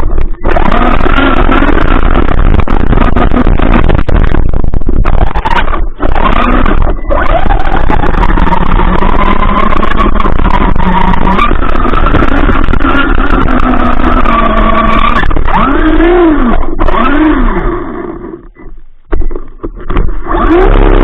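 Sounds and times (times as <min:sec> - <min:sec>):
constant rushing noise: 0:00.0 - 0:21.0
toy car motor whining: 0:00.2 - 0:04.4, 0:05.0 - 0:18.6, 0:20.2 - 0:21.0.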